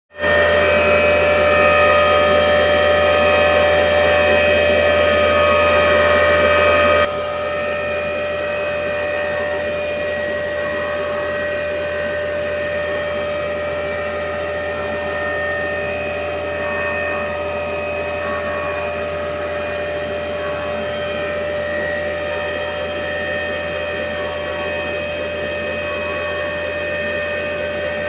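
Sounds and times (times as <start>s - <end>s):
machining centre whine: 0.2s - 28.0s.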